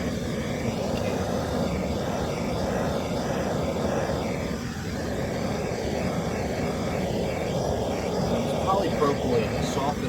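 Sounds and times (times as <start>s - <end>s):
torch flame rushing: 0.0s - 10.0s.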